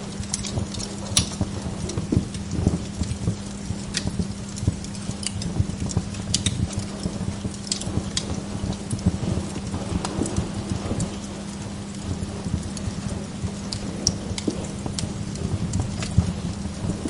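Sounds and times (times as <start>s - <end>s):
log fire crackling: 0.0s - 17.0s
steady low hum: 0.0s - 17.0s.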